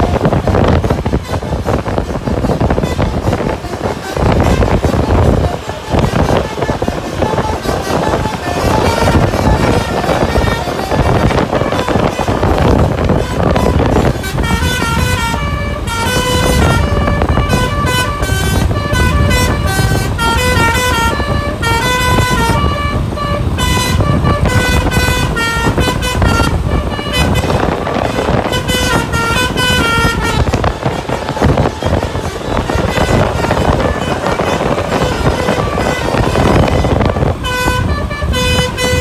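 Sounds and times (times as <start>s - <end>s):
bus horn playing a quick tune: 0.0s - 39.0s
engine and road rumble: 0.0s - 39.0s.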